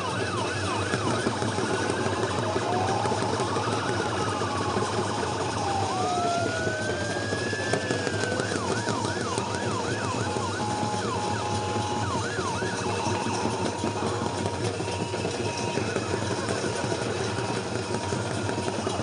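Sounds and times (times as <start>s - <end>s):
outdoor background din: 0.0s - 19.0s
siren-like gliding tone: 0.0s - 19.0s.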